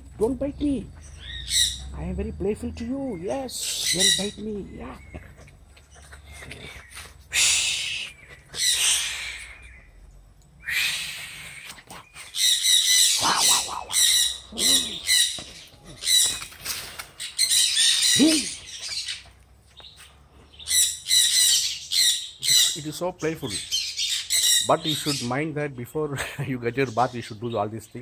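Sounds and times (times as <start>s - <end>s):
birds squawking: 0.2s - 2.2s, 2.8s - 10.0s, 10.6s - 25.6s.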